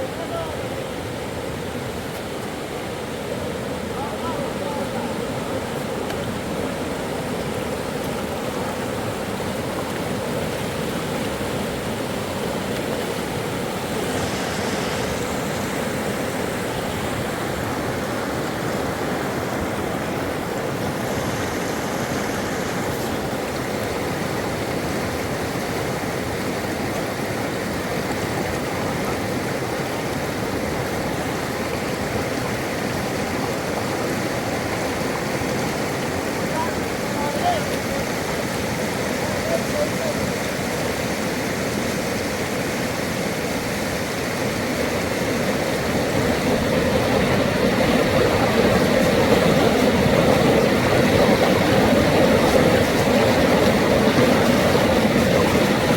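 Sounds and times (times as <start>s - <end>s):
river rushing: 0.0s - 55.9s.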